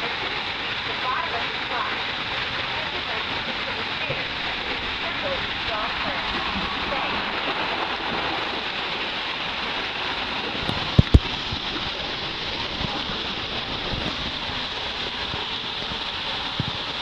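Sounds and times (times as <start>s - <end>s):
water rushing down a slide: 0.0s - 17.0s.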